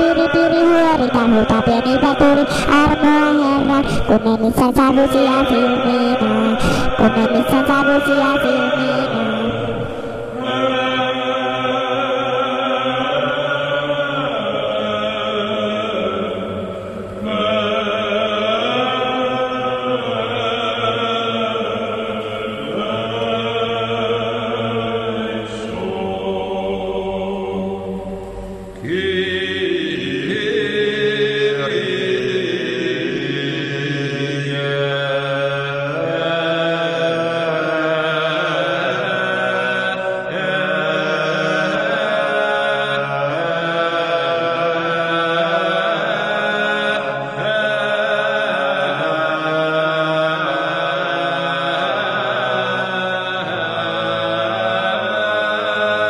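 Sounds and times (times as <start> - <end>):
chanted vocal with held notes: 0.0 - 56.0.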